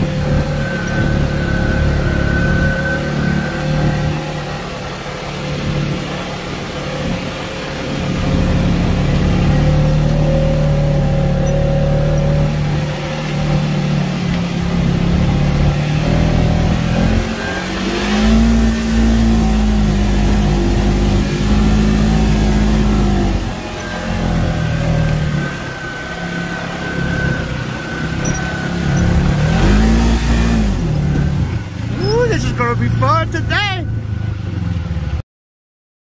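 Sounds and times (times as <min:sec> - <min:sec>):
utility vehicle engine running: 0:00.0 - 0:35.2.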